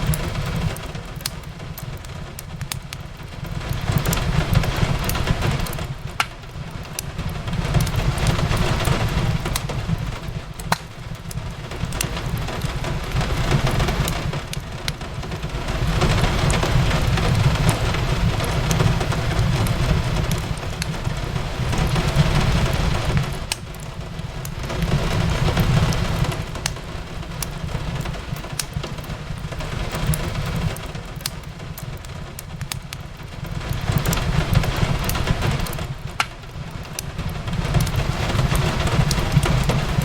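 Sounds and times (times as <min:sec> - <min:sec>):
fireplace crackling: 0:00.0 - 0:40.0
rain on a window: 0:00.0 - 0:40.0.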